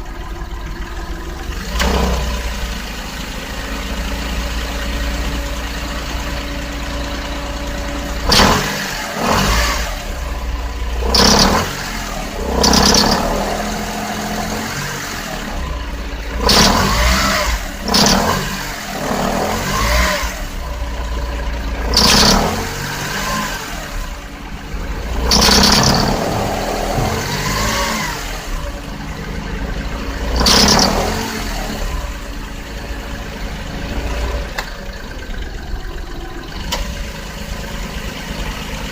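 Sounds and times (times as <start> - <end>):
abnormal engine noise: 0.0 - 38.9
car engine idling and revving: 0.0 - 38.9.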